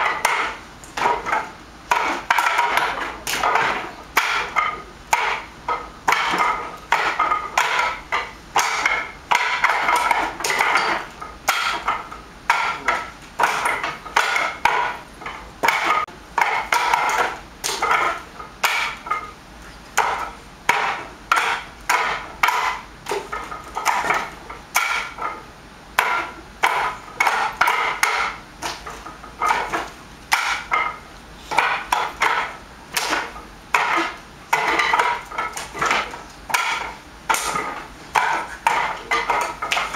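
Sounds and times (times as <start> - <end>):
sharp wooden knocks: 0.0 - 19.4, 20.0 - 39.9.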